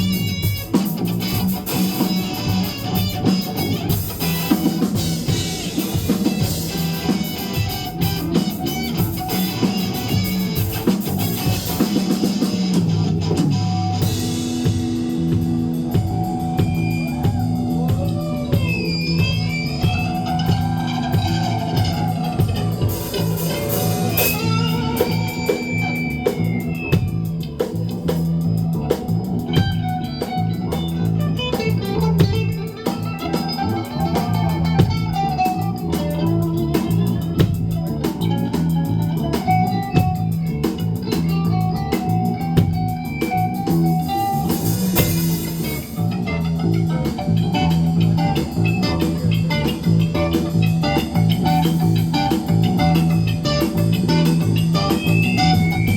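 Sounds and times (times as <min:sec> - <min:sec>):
electric guitar melody: 0:00.0 - 0:55.9
live rock band playing: 0:00.0 - 0:55.9.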